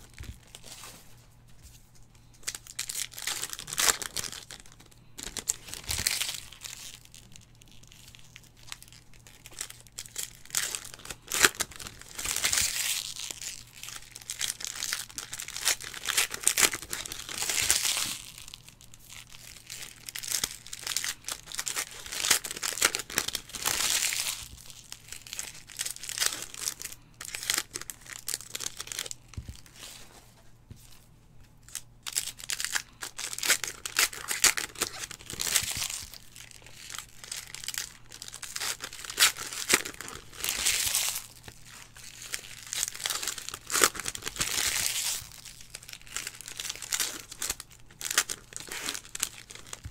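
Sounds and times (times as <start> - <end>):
foil wrappers tearing and crinkling: 2.2 - 30.2, 31.6 - 49.9.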